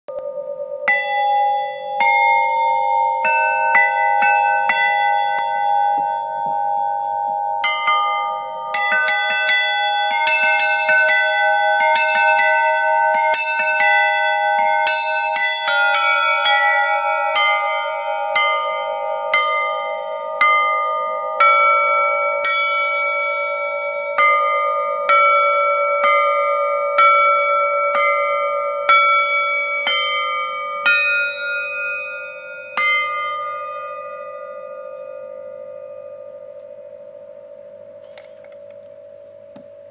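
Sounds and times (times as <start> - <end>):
bells struck with mallets: 0.1 - 39.9.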